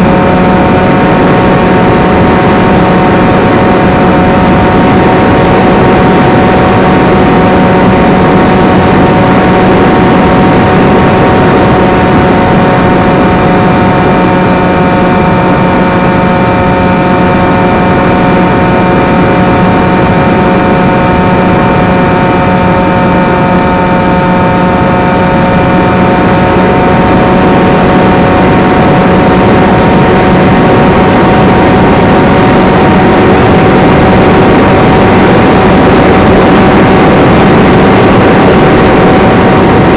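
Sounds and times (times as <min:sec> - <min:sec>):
electric motor whine: 0:00.0 - 0:39.9
wind rush: 0:00.0 - 0:39.9.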